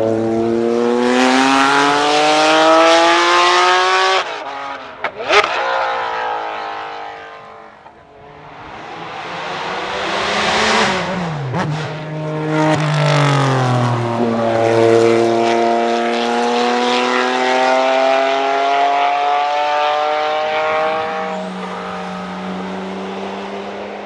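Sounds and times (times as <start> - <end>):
sports car accelerating past: 0.0 - 24.0.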